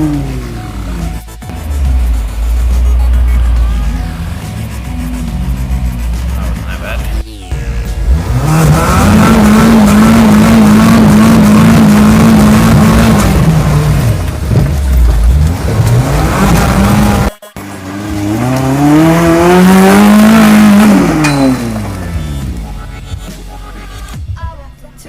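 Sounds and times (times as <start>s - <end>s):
car engine on rev limiter: 0.0s - 22.9s.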